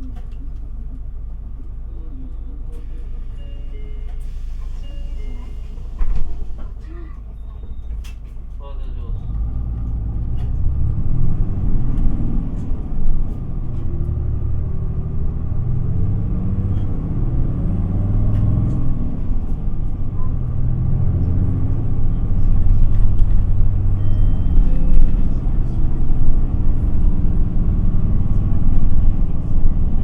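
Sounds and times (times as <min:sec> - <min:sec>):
bus diesel engine pulling: 0:00.0 - 0:30.0
low road rumble: 0:00.0 - 0:30.0.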